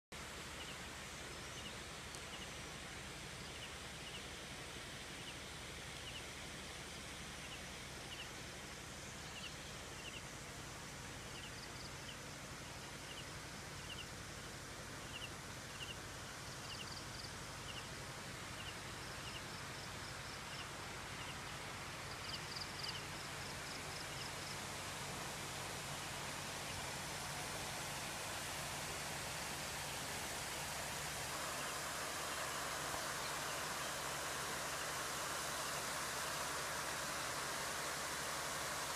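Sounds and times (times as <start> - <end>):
outdoor ambience hiss: 0.0 - 38.9.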